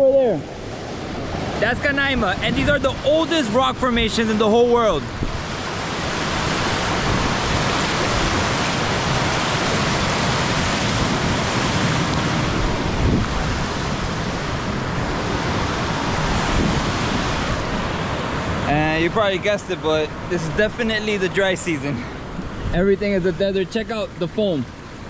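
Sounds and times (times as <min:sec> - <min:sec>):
river rapids rushing: 0:00.0 - 0:25.0.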